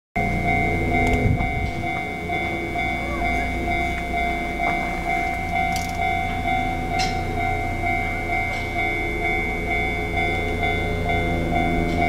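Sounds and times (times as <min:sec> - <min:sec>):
distant diesel locomotive hum: 0:00.2 - 0:12.0
repeating ringing tone: 0:00.2 - 0:12.0.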